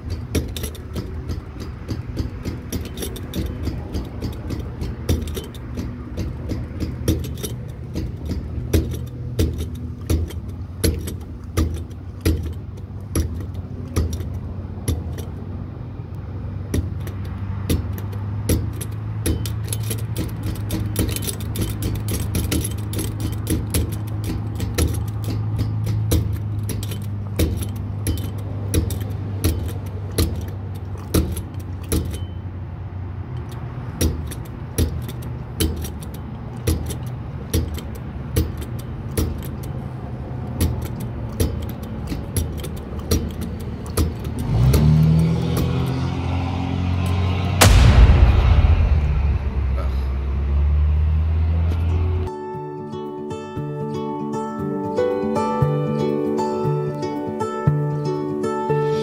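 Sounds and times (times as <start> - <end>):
loose metal jingling: 0.0 - 48.0
vehicle engine and road drone: 0.0 - 59.0.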